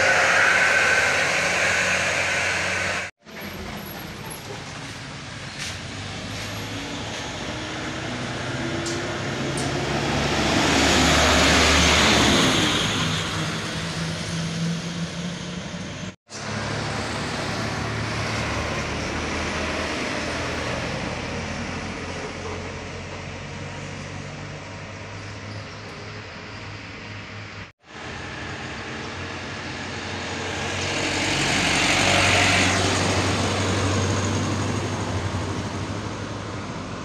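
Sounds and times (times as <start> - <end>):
truck engine drone: 0.0 - 37.0.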